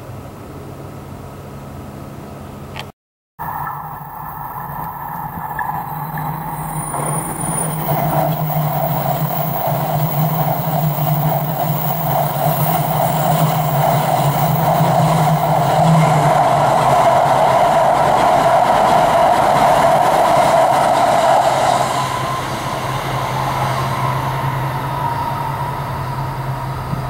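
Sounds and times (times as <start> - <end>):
high-speed train running past: 3.4 - 27.0
low hum: 3.4 - 27.0.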